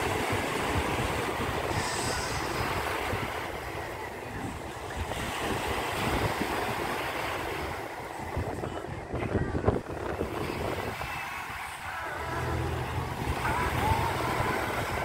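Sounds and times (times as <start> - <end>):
surf washing: 0.0 - 15.0
wind buffeting the microphone: 0.0 - 15.0.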